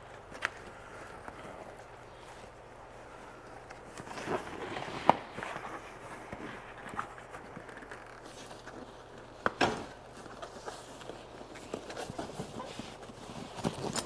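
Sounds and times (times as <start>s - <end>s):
fabric rustling and scraping: 0.0s - 14.0s.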